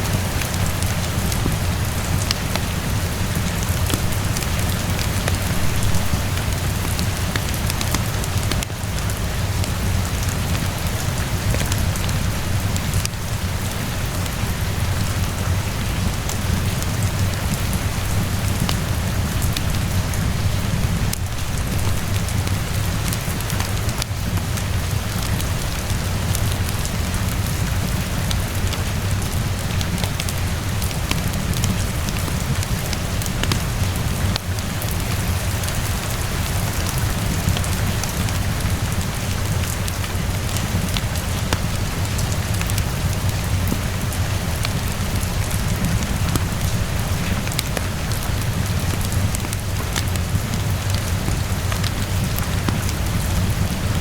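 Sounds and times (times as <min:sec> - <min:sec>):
steady rainfall: 0:00.0 - 0:54.0
wood fire crackling: 0:00.0 - 0:54.0.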